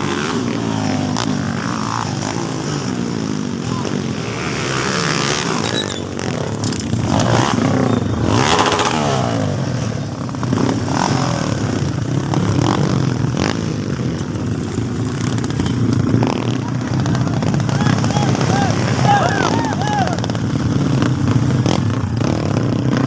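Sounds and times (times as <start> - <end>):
dirt bike engines revving: 0.0 - 23.0
dirt bike passing close: 0.0 - 23.0.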